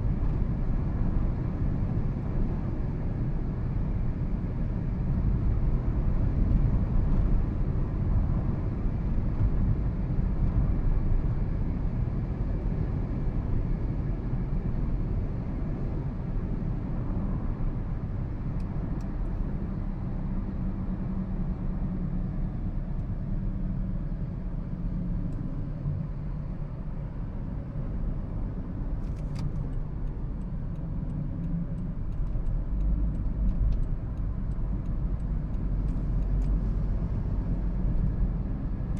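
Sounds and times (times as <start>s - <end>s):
car road rumble: 0.0s - 38.9s.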